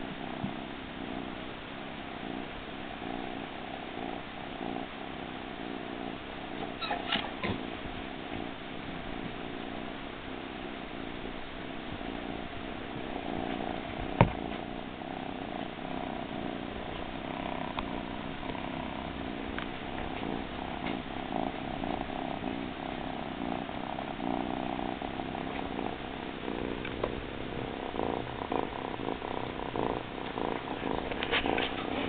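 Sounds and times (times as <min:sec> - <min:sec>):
kitten purring: 0:00.0 - 0:32.0.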